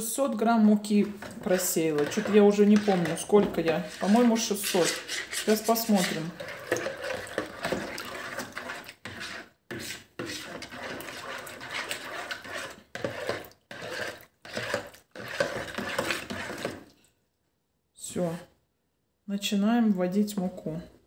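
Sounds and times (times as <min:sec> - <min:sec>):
teaspoon stirring in plastic bowl: 0:00.1 - 0:17.0.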